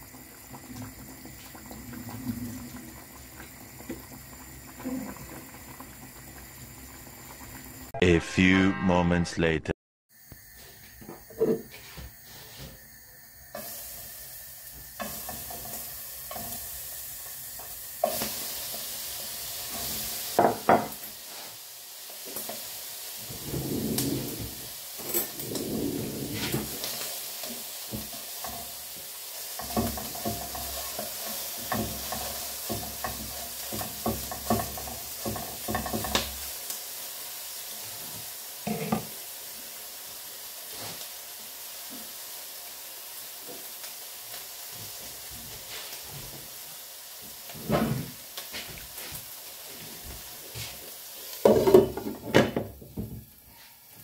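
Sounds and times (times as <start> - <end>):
food sizzling in a pan: 0.0 - 7.9, 10.1 - 54.0.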